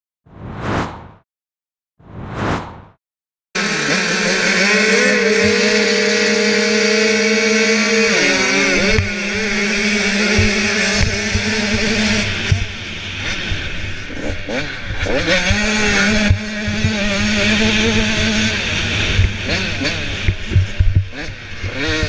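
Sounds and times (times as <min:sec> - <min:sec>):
motocross bike engines revving: 0:03.6 - 0:22.0.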